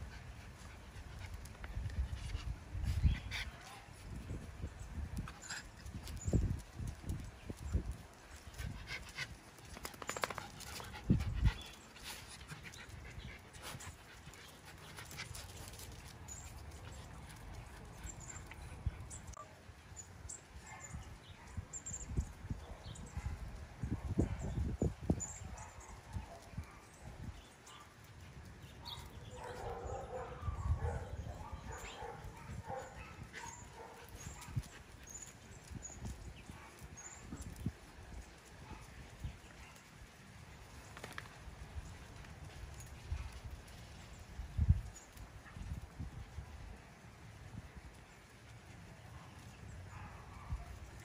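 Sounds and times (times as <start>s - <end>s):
puppies sniffing and breathing: 0.0s - 20.0s, 25.2s - 46.8s.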